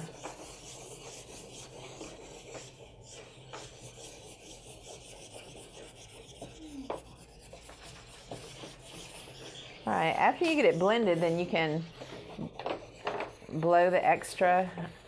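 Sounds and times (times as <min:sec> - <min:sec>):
pastel rubbing on paper: 0:00.0 - 0:15.0.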